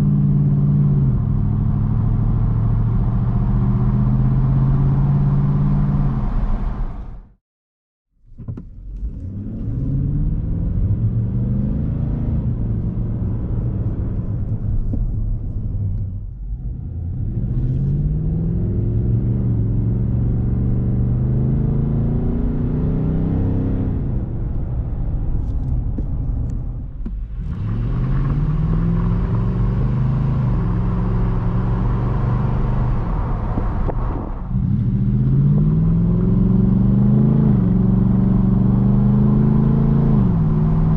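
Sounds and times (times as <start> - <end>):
engine accelerating through gears: 0.0 - 7.2, 8.4 - 15.0, 15.6 - 40.9.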